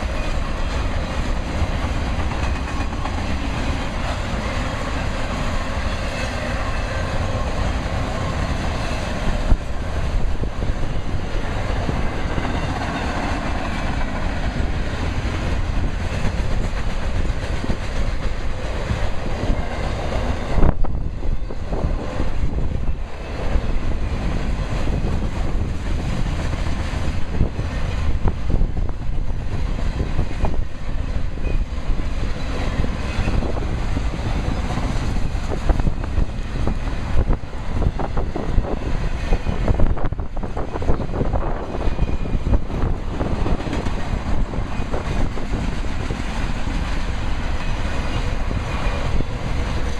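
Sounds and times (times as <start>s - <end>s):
train wheels clacking: 0.0s - 49.9s
wind buffeting microphone: 0.0s - 49.9s.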